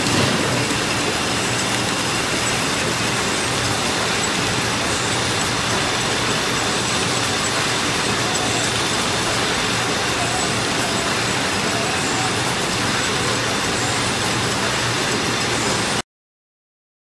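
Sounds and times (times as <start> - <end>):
packaging machinery din: 0.0 - 16.0.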